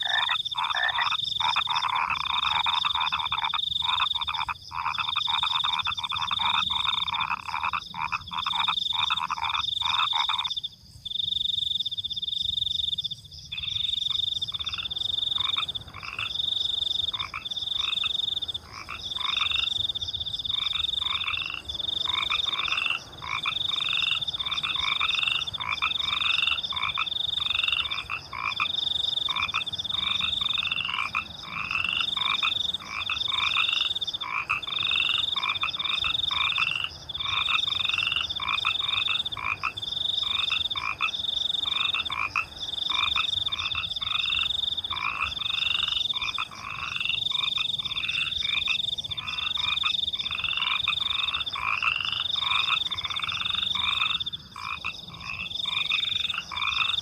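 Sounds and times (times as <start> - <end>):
crickets trilling: 0.0 - 57.0
frogs croaking: 0.0 - 57.0.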